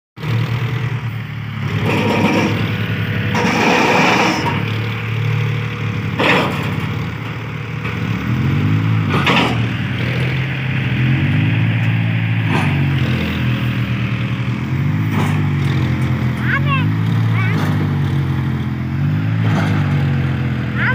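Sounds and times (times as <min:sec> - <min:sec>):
tractor diesel engine revving: 0:00.2 - 0:20.9.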